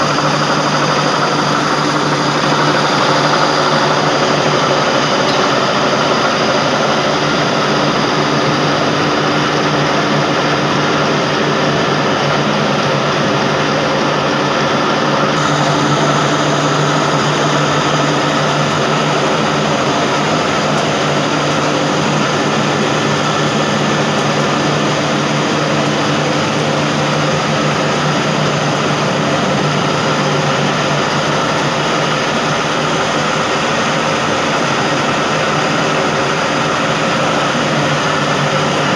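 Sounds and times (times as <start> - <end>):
flour mill machine din: 0.0 - 38.9.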